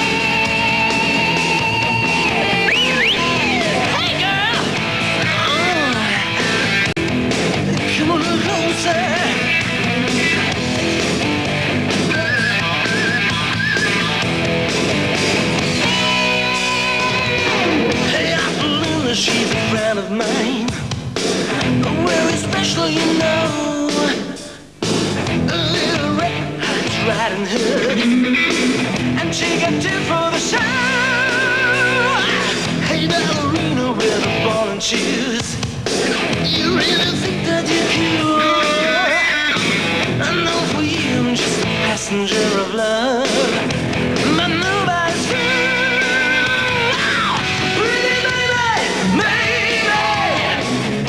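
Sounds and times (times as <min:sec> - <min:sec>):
rock song with electric guitar: 0:00.0 - 0:51.0.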